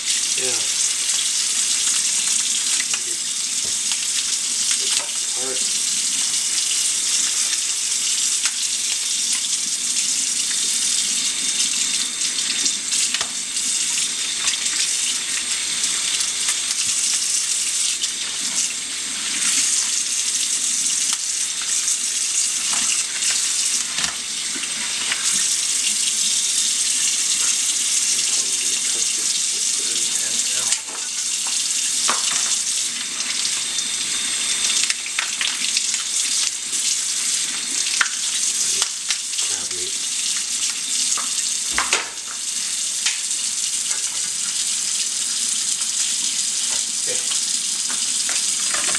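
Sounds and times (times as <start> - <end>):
faucet running into sink: 0.0 - 48.9.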